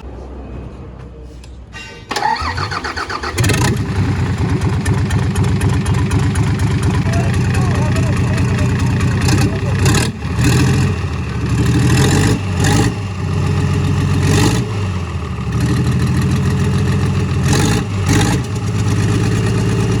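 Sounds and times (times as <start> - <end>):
diesel engine knocking and revving: 2.1 - 20.0.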